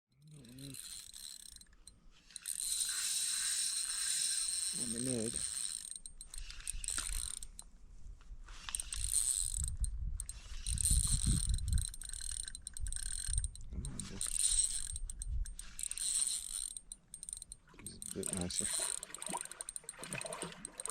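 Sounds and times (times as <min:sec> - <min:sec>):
fishing reel whirring and clicking: 0:00.2 - 0:07.7, 0:08.6 - 0:20.9.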